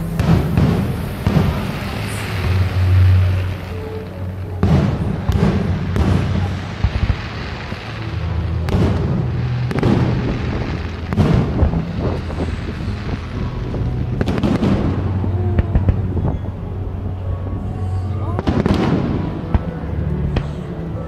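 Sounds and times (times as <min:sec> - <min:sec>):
fireworks booming: 0:00.0 - 0:16.9, 0:18.3 - 0:20.7
background music: 0:00.0 - 0:21.0
fireworks crackling: 0:00.0 - 0:21.0.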